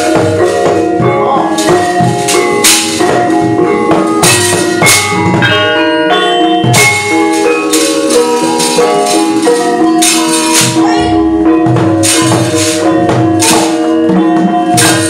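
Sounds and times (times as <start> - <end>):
bright metallic clashes: 0.0 - 15.0
metallophones ringing: 0.0 - 15.0.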